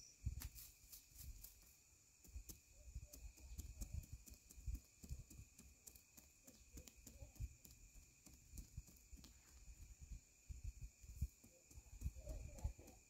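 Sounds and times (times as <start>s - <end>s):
faint insect drone: 0.0s - 13.0s.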